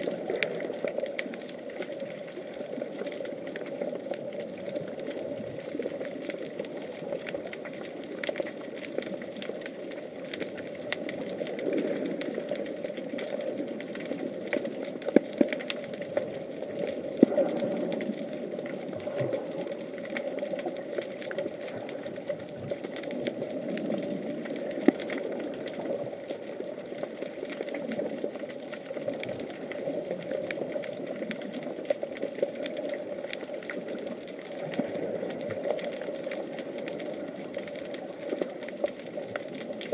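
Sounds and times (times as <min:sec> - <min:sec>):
crackle of small clicks: 0:00.0 - 0:39.9
muffled underwater hum: 0:00.0 - 0:39.9.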